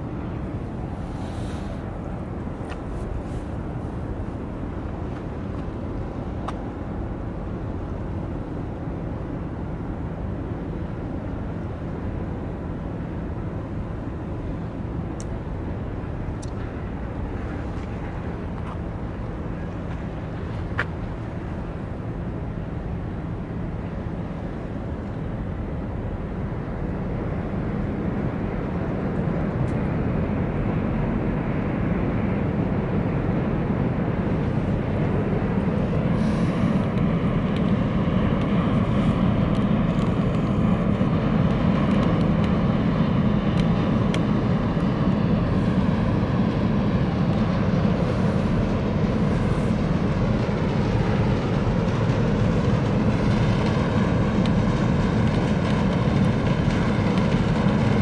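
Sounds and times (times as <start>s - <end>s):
container ship low rumble: 0.0s - 58.0s.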